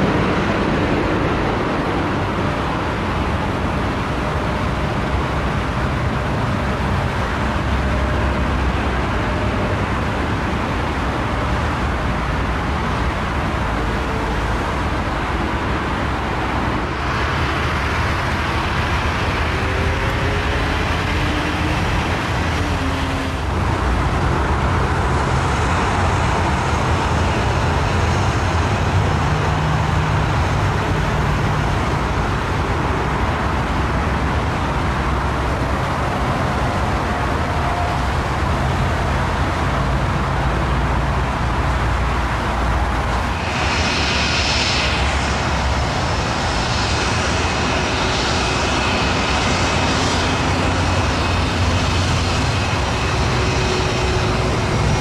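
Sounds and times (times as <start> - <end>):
airport rumble: 0.0 - 55.0
jet airliner engine noise: 0.0 - 55.0.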